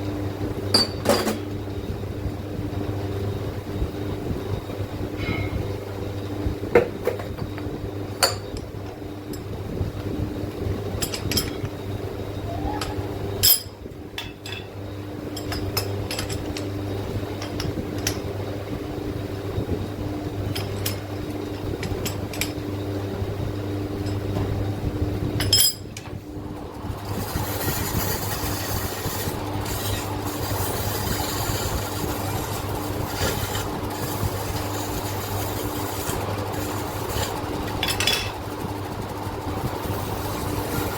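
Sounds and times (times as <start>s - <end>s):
steady motor hum: 0.0s - 40.9s.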